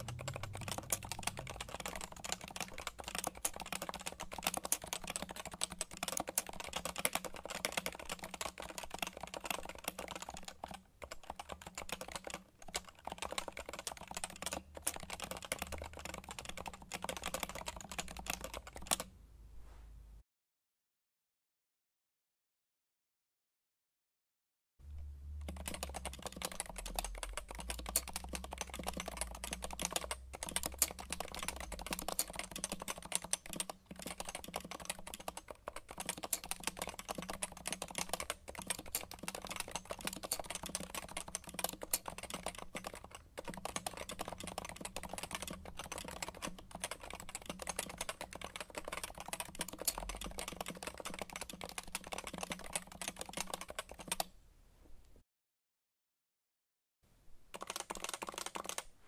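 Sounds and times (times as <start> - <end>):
fast typing on mechanical keyboard: 0.0 - 19.1, 25.3 - 54.3, 57.5 - 58.9.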